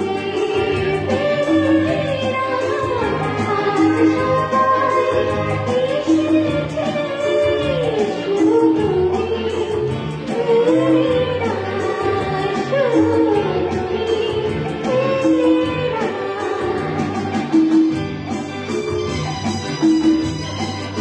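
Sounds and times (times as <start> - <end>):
woman singing: 0.0 - 17.9
instrumental accompaniment with beat: 0.0 - 21.0.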